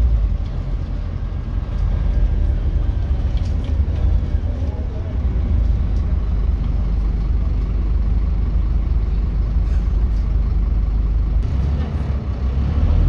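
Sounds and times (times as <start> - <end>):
bus diesel engine drone: 0.0 - 13.0
road and body noise: 0.0 - 13.0.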